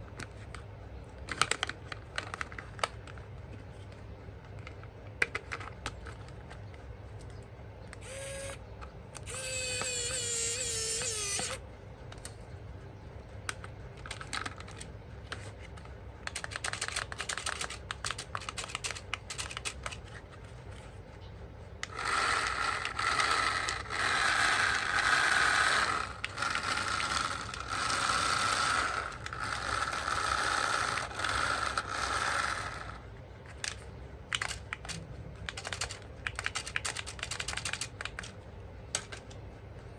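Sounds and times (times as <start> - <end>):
clicks and rattles of handling: 0.0 - 8.1, 13.2 - 39.5
toy motor and gears whirring: 0.0 - 12.5, 13.3 - 21.1, 21.7 - 39.4.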